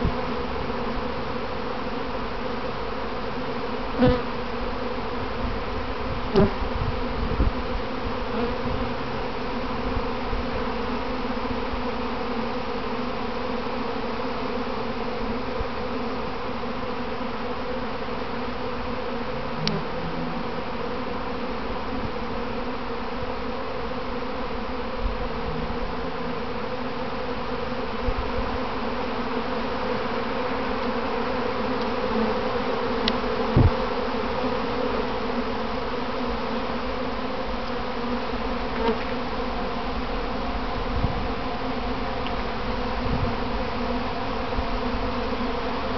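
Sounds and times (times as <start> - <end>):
bees humming: 0.0 - 45.9.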